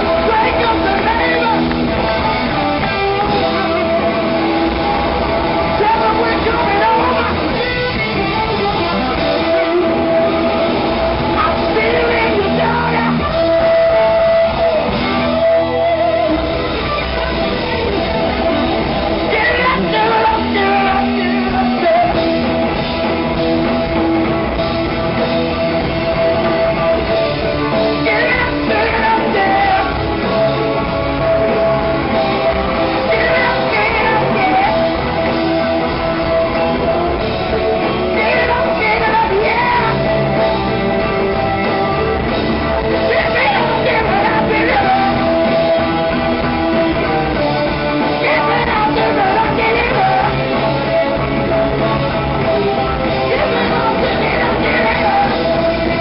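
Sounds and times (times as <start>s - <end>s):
man singing: 0.0s - 17.9s, 19.1s - 22.8s, 27.0s - 30.6s, 31.6s - 40.5s, 41.9s - 46.8s, 47.6s - 52.0s, 52.7s - 56.0s
live rock band playing: 0.0s - 56.0s.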